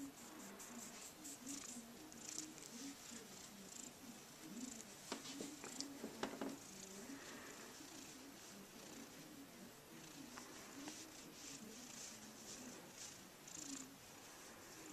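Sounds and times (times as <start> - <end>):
cat purring: 0.0 - 14.9.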